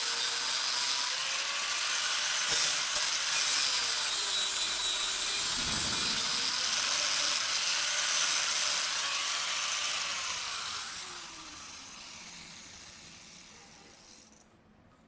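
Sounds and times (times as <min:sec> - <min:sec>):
power tool grinding: 0:00.0 - 0:14.4.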